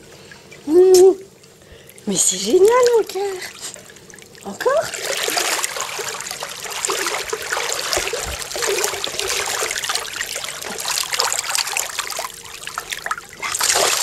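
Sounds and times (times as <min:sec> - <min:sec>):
pool water splashing: 0:00.0 - 0:14.0.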